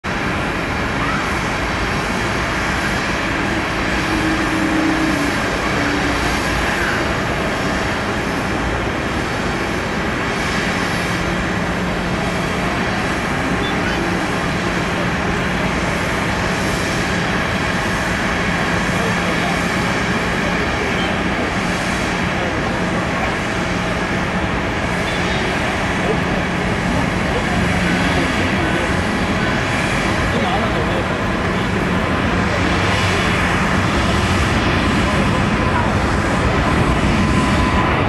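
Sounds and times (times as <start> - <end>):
distant jet engines roaring: 0.0 - 38.0.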